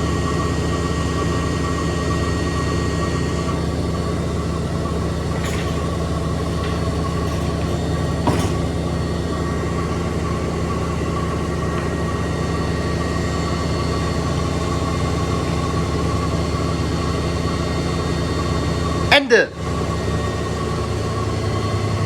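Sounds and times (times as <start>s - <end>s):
washing machine spin cycle drone: 0.0s - 22.0s.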